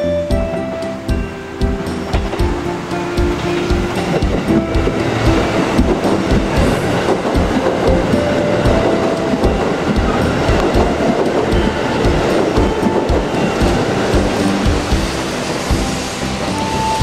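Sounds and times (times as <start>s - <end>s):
train rumble: 0.0s - 17.0s
train wheels clickety-clack: 0.0s - 17.0s.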